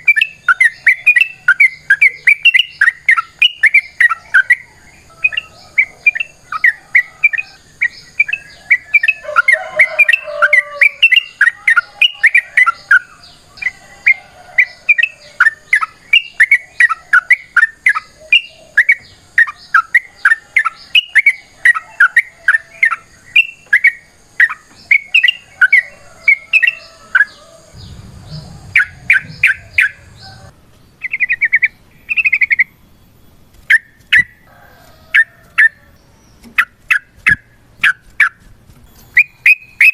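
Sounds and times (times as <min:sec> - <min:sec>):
bulbul chattering song: 0:00.0 - 0:32.8.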